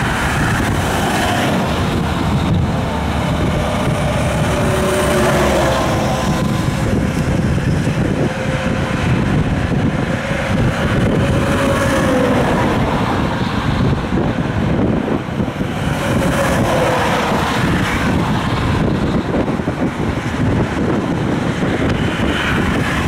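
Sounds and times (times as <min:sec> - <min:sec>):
highway traffic passing: 0:00.0 - 0:23.0
wind on microphone: 0:00.0 - 0:23.0.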